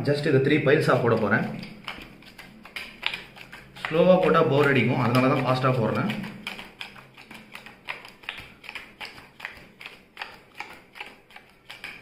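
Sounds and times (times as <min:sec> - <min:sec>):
playing cards snapping on table: 0:01.6 - 0:04.4, 0:05.0 - 0:12.0.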